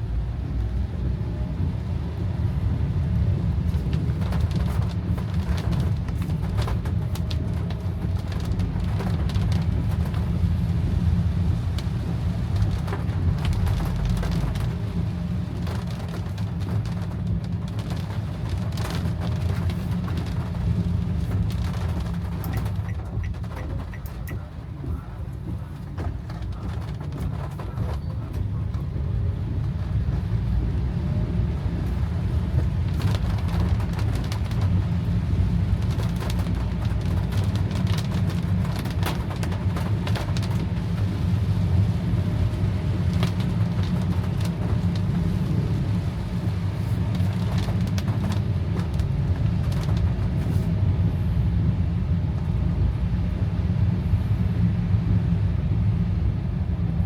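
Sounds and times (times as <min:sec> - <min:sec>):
car driving rumble: 0:00.0 - 0:57.0
raindrops ticking on car: 0:00.1 - 0:57.0.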